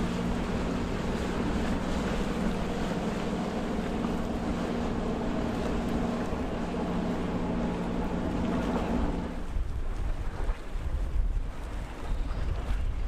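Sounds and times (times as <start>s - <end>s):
boat engine running: 0.0s - 13.0s
water rushing from wake: 0.0s - 13.0s
wind on microphone: 0.0s - 13.0s.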